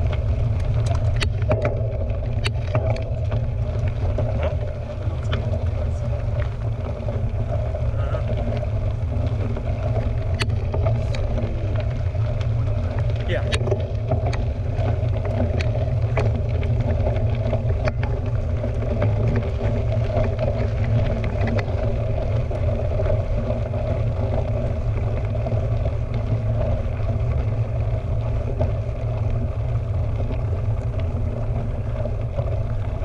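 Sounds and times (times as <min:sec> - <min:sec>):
bike clicks and rattles: 0:00.0 - 0:33.0
bike tyre noise on trail: 0:00.0 - 0:33.0
wind rumble on microphone: 0:00.0 - 0:33.0.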